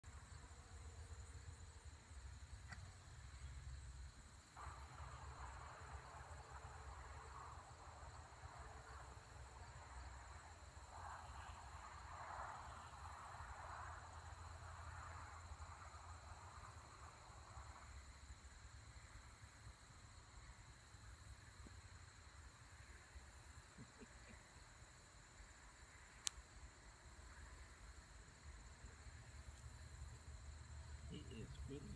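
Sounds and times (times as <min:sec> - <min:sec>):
cricket trill: 0:00.0 - 0:31.9.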